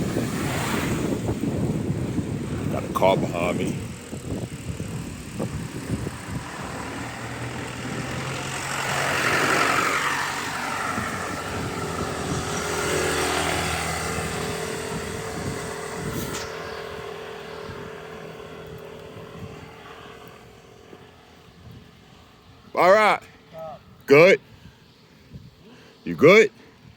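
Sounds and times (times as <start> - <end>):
car passing: 0.0 - 23.6.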